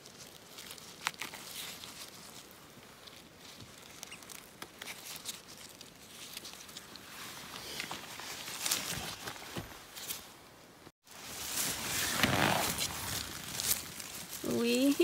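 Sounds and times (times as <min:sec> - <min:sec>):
footsteps through forest undergrowth: 0:00.0 - 0:10.3, 0:11.0 - 0:15.0.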